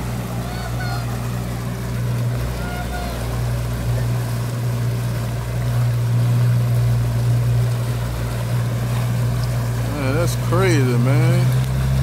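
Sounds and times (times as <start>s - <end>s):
outboard motor drone: 0.0s - 12.0s
water churning in wake: 0.0s - 12.0s.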